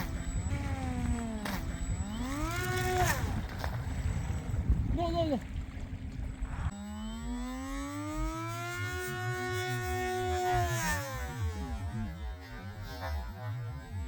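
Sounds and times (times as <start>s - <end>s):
electric motor and propeller whining: 0.0s - 14.0s
low rumble of wind or water: 0.0s - 14.0s.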